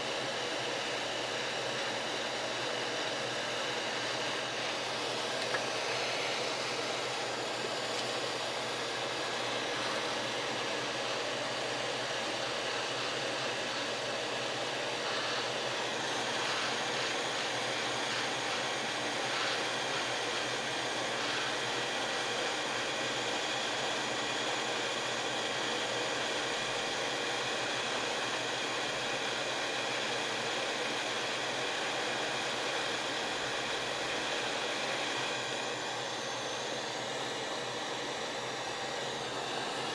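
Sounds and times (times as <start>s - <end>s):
hot air gun fan hissing: 0.0s - 39.9s.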